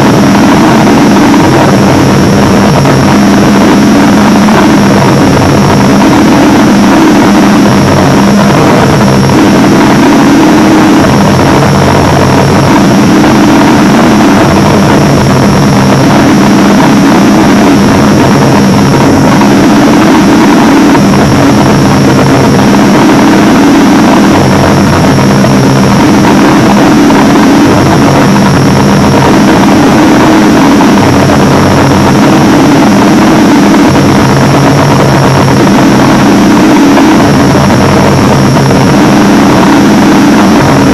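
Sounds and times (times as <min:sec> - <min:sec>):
harsh alarm drone with high whine: 0:00.0 - 0:40.9.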